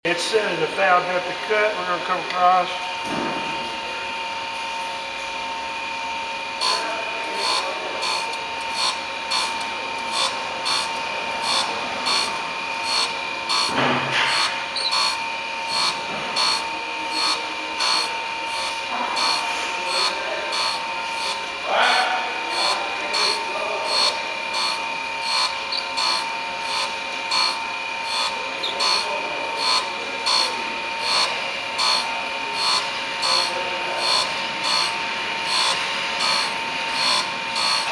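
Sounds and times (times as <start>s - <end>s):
grinder spindle whine: 0.1s - 37.9s
grinding wheel rasping: 6.6s - 37.9s.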